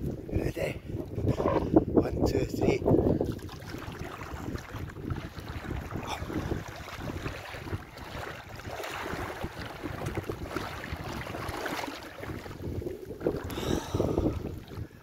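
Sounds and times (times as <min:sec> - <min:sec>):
wind rumble on microphone: 0:00.0 - 0:15.0
water splashing around wader: 0:03.0 - 0:15.0.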